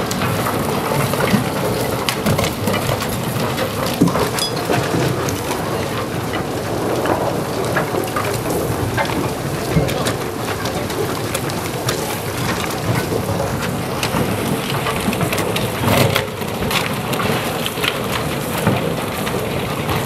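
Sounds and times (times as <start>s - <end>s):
cracks of crumbling concrete: 0.0s - 20.0s
tunnel boring machine rumbling: 0.0s - 20.0s.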